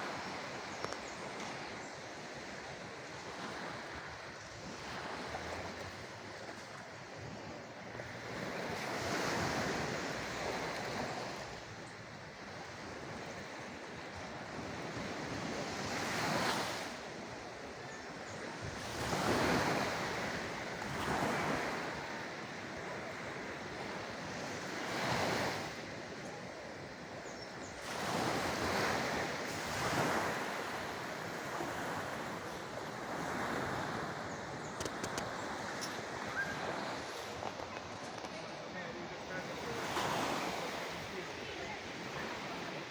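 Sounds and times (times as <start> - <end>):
sea waves breaking: 0.0 - 42.9.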